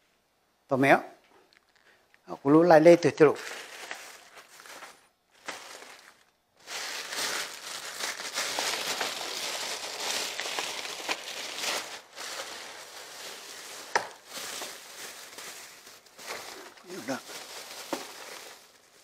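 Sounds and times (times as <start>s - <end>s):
rustling and crinkling: 1.3s - 2.3s, 3.2s - 19.0s.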